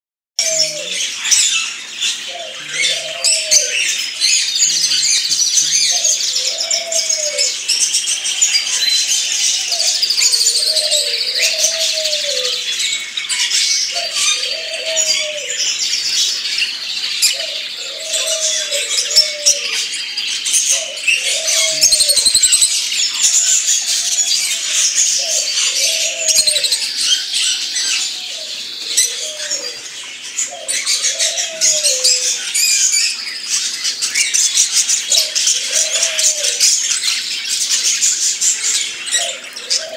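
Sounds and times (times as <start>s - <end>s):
small birds chirping: 0.4s - 39.9s.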